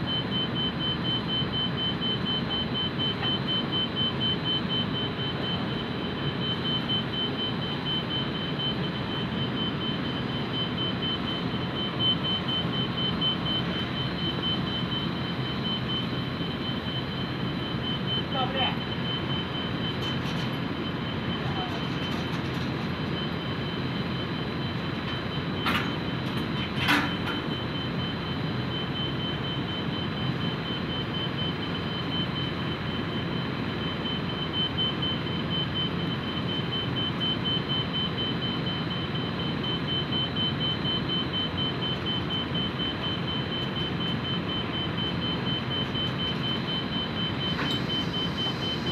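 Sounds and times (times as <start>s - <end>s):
machinery running with whine: 0.0s - 48.9s.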